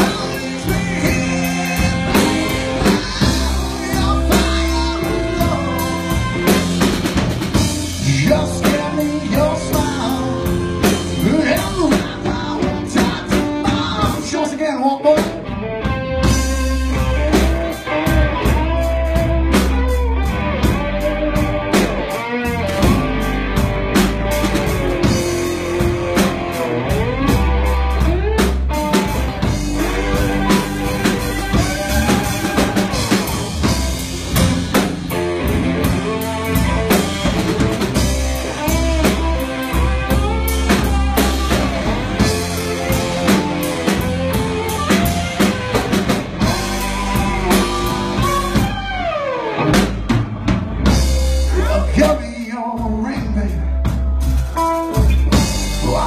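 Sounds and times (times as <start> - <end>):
drum kit: 0.0 - 56.0
electric guitars bending notes: 0.0 - 56.0.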